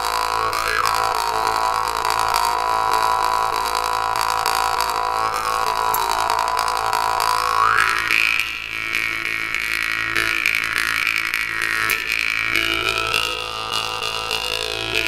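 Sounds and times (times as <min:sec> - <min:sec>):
jaw harp drone: 0:00.0 - 0:15.0.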